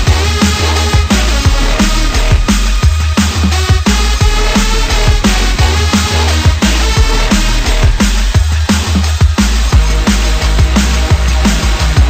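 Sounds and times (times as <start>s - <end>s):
loud electronic music: 0.0s - 12.0s.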